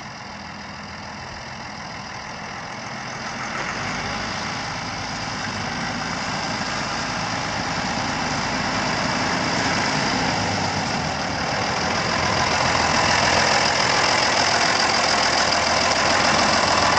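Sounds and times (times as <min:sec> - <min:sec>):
tractor diesel engine driving by: 0:00.0 - 0:16.9.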